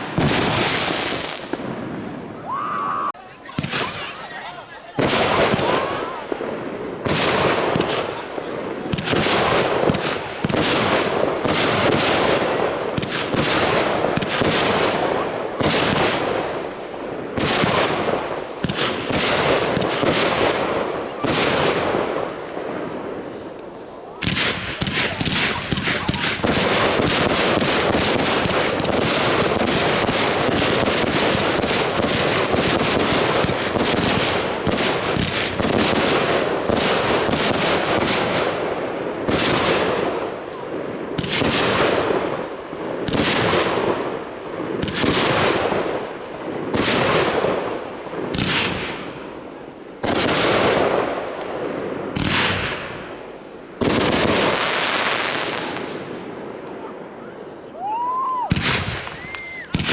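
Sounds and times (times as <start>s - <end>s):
fireworks cracking and bursting: 0.0s - 59.9s.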